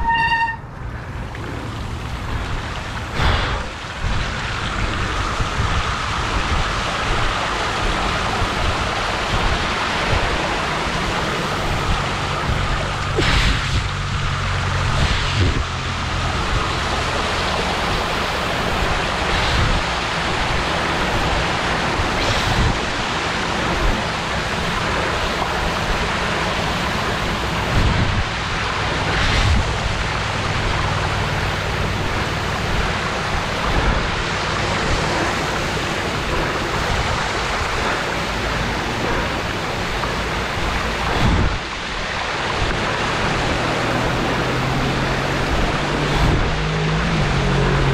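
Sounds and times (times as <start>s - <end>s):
wheels splashing through water: 0.0s - 47.9s.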